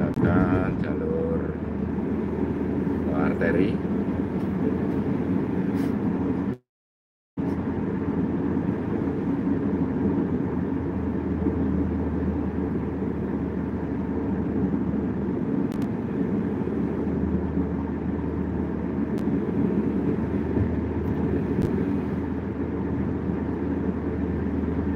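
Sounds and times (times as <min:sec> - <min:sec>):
car cabin road drone: 0:00.0 - 0:06.6, 0:07.4 - 0:24.9.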